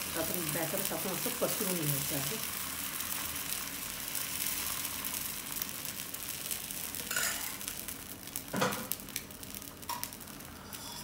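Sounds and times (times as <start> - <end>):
batter sizzling on a griddle: 0.0 - 11.0.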